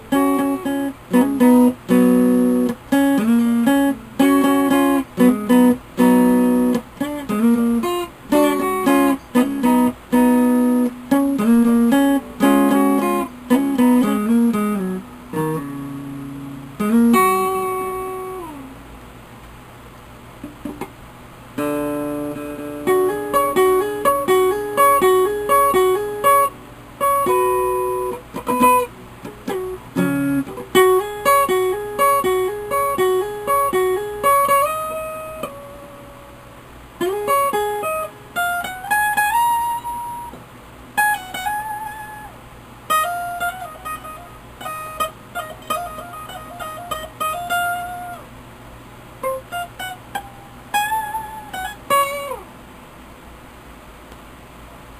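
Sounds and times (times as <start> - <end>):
electric guitar notes: 0.0 - 18.8, 21.6 - 36.4, 37.0 - 40.4, 41.0 - 42.3, 42.9 - 48.2, 49.2 - 52.5
steady low hum: 0.0 - 54.9.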